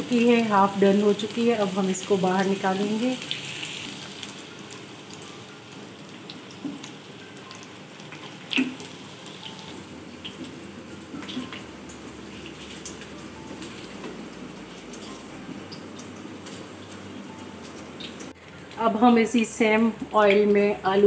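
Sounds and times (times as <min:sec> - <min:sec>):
oil sizzling in a wok: 0:00.0 - 0:21.0.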